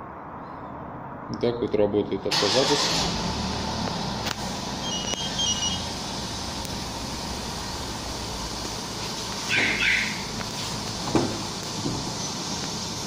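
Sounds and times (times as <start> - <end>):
car engine idling: 2.4 - 13.0.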